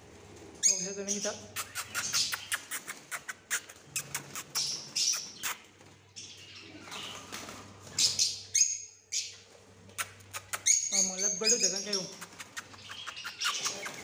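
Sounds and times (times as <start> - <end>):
lovebirds chirping: 0.6 - 14.0.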